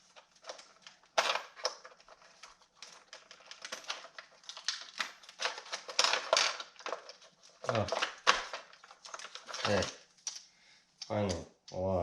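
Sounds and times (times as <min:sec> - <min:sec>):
plastic and metal parts clicking: 0:00.1 - 0:10.4.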